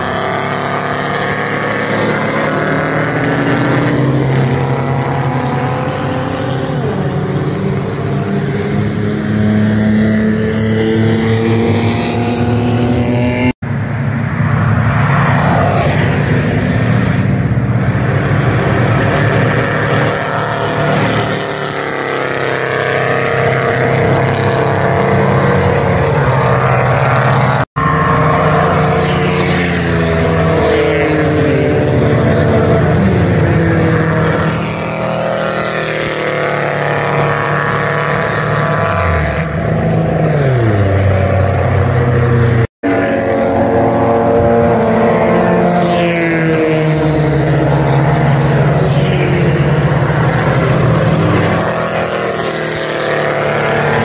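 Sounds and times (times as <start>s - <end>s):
race cars passing: 0.0s - 54.0s.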